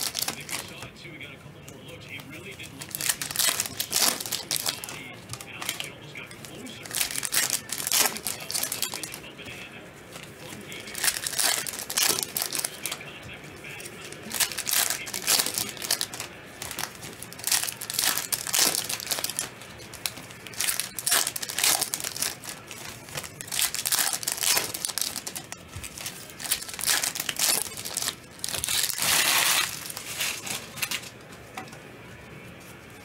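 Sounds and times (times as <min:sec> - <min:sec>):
plastic wrappers crinkling and tearing: 0:00.0 - 0:31.7.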